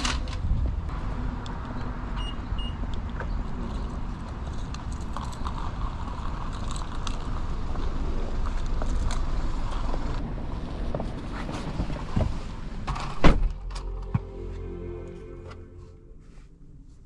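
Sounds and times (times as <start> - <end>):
car engine rumble: 0.4 - 17.0.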